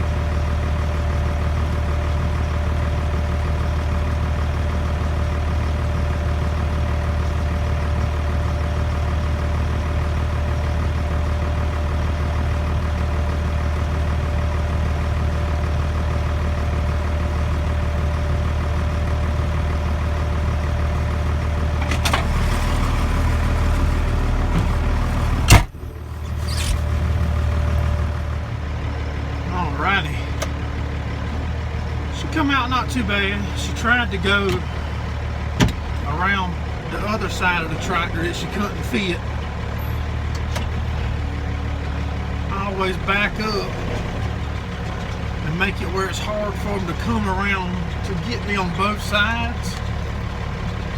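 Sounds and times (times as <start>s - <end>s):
tractor diesel engine idling: 0.0s - 50.9s.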